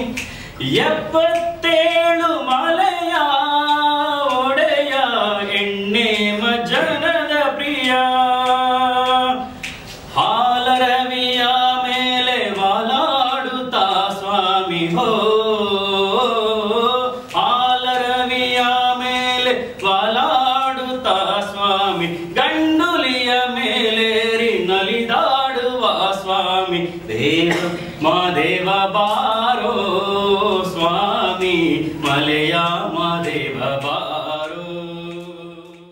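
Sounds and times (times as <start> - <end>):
man singing unaccompanied: 0.0 - 35.9.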